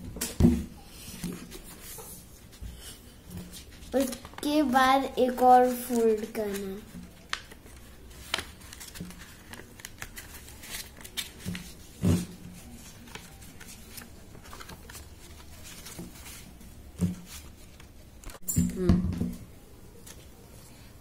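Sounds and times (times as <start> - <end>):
paper rustling and creasing: 1.0 - 18.4.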